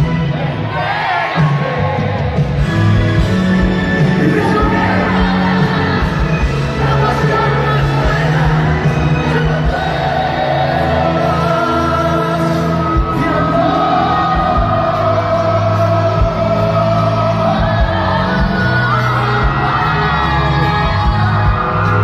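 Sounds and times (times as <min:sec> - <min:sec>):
live pop ballad by full band: 0:00.0 - 0:22.0
singer holding long notes: 0:00.3 - 0:22.0.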